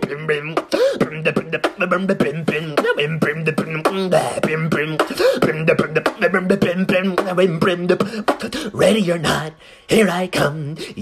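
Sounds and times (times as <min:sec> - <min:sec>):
beatboxing mouth clicks and snares: 0:00.0 - 0:09.5.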